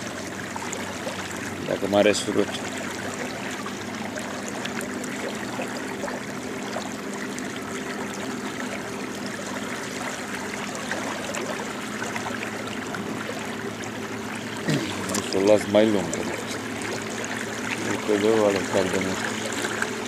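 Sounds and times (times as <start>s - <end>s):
water rushing around boat: 0.0s - 20.0s.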